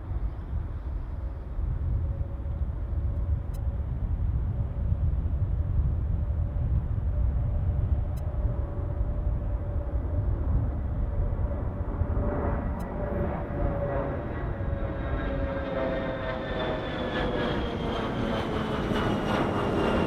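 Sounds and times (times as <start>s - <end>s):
jet engines roaring: 0.0s - 20.0s
wind on microphone: 0.0s - 20.0s.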